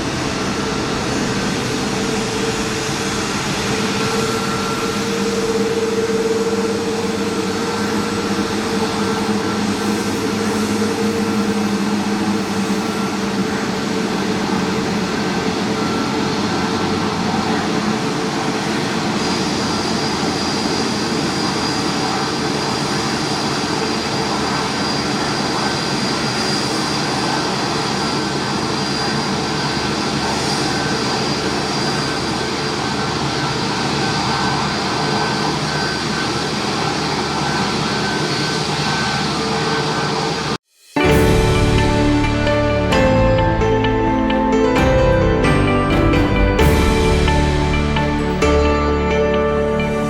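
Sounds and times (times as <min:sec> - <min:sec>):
high engine whine: 0:00.0 - 0:50.0
jet engines running: 0:00.0 - 0:50.0.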